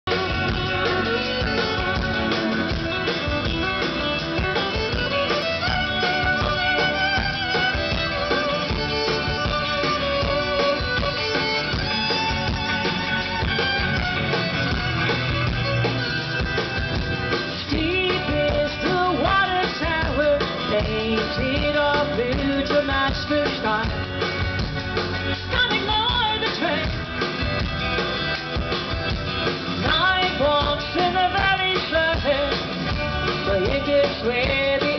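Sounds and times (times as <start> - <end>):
live rock band playing: 0.0 - 34.9.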